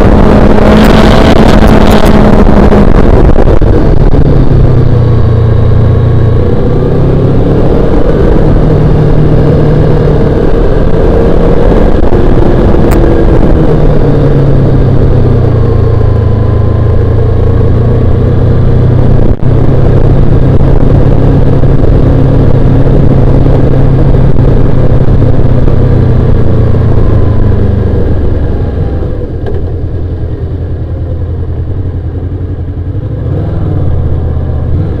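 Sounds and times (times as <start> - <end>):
wind noise: 0.0 - 30.9
motorcycle engine running: 0.0 - 35.0
road noise: 0.0 - 35.0.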